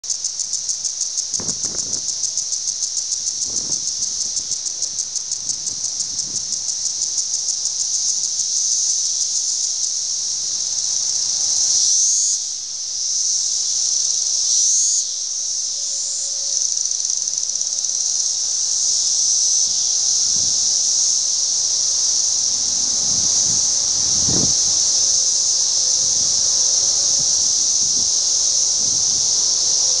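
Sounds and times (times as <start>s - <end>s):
cicada chorus: 0.0s - 30.0s
single cicada calls: 0.0s - 30.0s.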